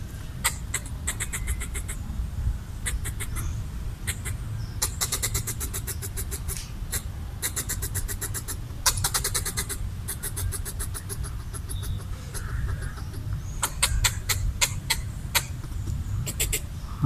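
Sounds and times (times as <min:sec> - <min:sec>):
squirrel chattering: 0:00.4 - 0:02.0, 0:02.8 - 0:17.0.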